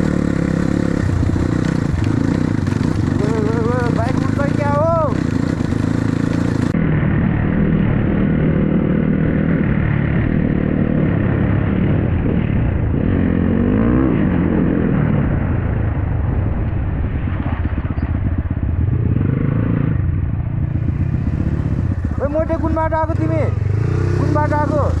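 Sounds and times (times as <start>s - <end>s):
dirt bike engine revving: 0.0s - 15.5s, 17.4s - 25.0s.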